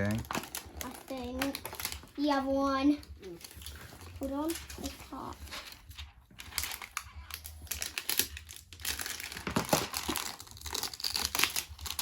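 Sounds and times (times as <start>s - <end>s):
plastic packaging crinkling: 0.0s - 2.4s, 3.0s - 12.0s.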